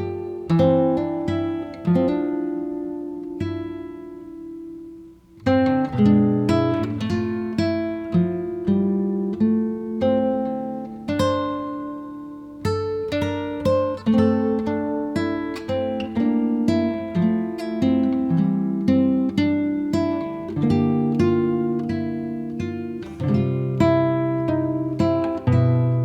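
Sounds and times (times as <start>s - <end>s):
acoustic guitar plucking: 0.0s - 26.0s.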